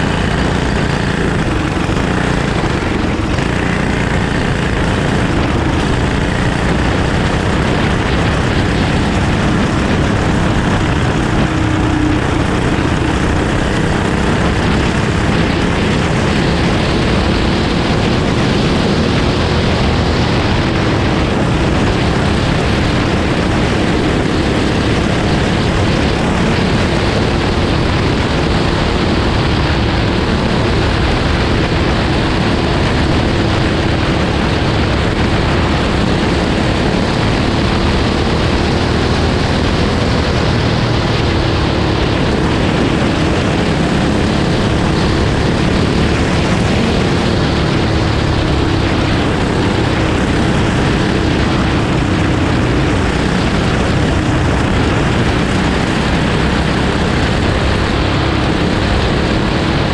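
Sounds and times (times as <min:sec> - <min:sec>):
constant rush of noise: 0:00.0 - 0:59.9
kart engine running hard: 0:00.0 - 0:59.9.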